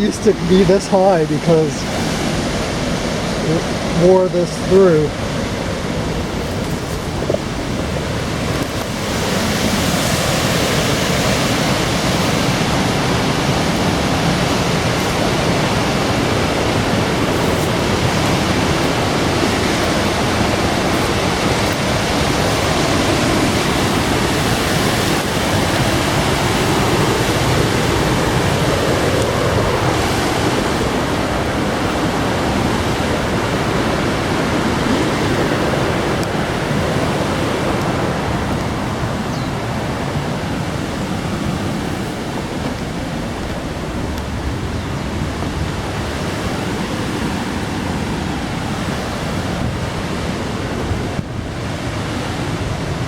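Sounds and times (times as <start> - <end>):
fast-flowing water rushing: 0.0 - 53.0.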